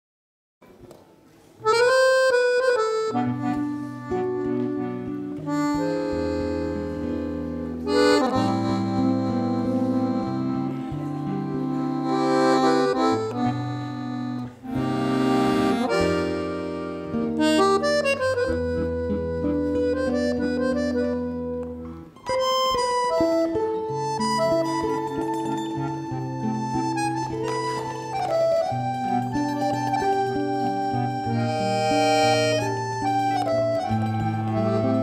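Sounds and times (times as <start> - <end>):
nylon-string guitar accompanying: 0.6 - 35.0
accordion playing chords and melody: 1.5 - 35.0.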